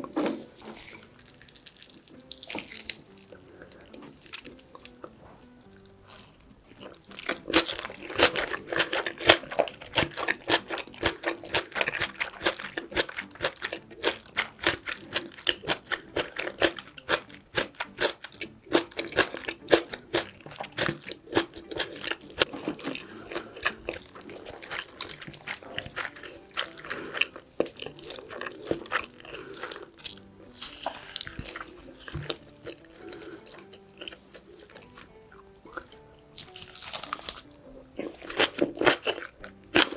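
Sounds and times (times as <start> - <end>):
wet chewing crunches: 0.0 - 39.9.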